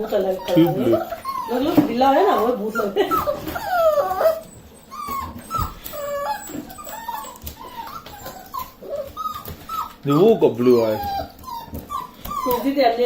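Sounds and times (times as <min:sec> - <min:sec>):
puppies whimpering and yelping: 0:00.0 - 0:13.0.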